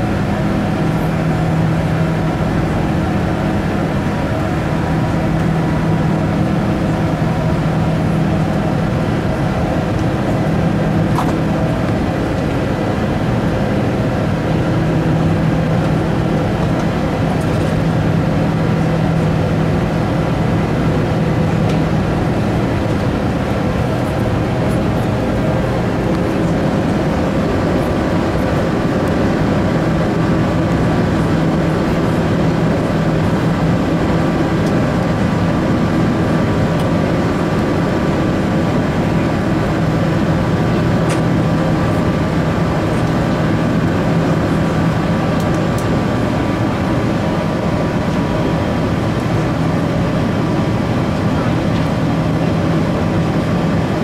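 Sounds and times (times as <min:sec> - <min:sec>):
engine and airflow rush: 0:00.0 - 0:54.0.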